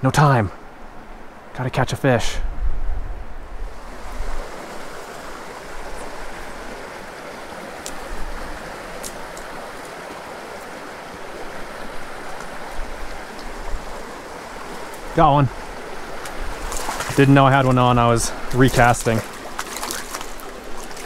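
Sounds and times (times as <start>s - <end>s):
creek flowing over rocks: 3.7s - 21.0s.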